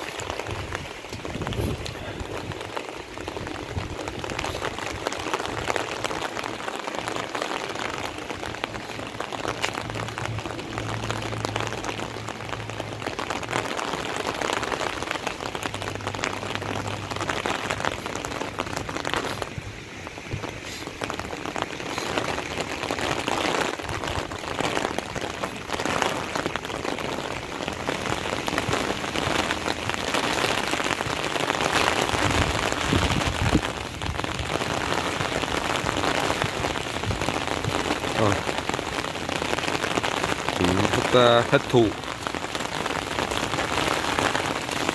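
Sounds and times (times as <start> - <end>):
rain on wet ground and water: 0.0 - 44.9.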